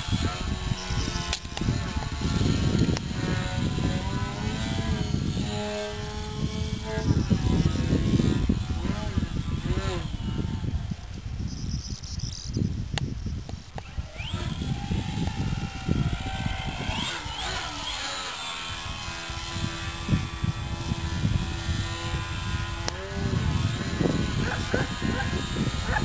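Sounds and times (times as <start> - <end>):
model airplane motor whining: 0.0 - 12.2, 13.6 - 26.0.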